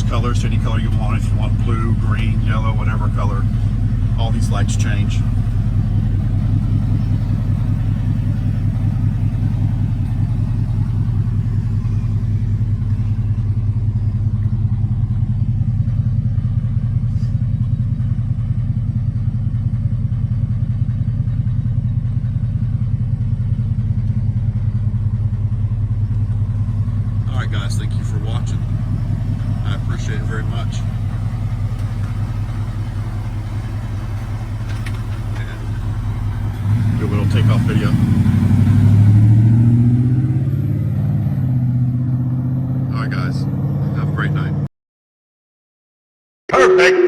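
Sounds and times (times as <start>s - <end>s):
truck engine idling: 0.0s - 44.5s.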